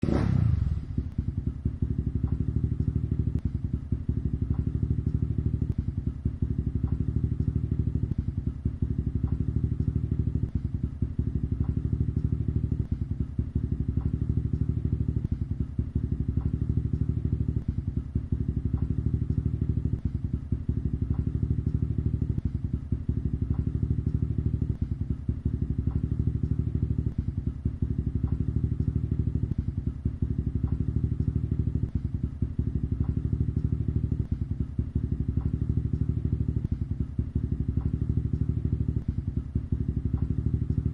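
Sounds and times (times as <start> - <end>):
engine chugging: 0.0 - 40.9
faint regular ticking: 0.0 - 40.9.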